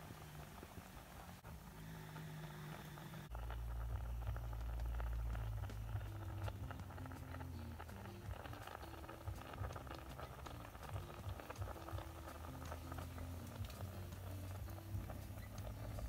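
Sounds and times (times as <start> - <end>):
tiny crackles and bubbling: 0.0 - 16.0
low rumble: 2.7 - 16.0.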